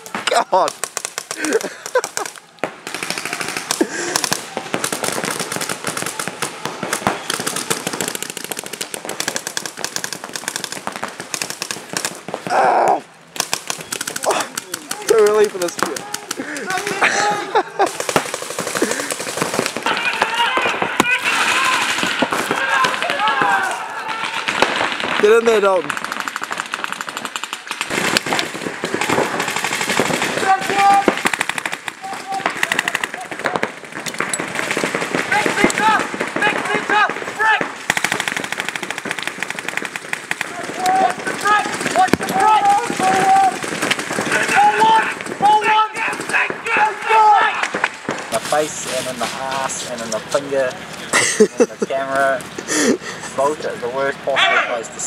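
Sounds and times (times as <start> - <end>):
paintball markers firing: 0.0 - 12.6, 13.3 - 17.0, 17.8 - 48.8.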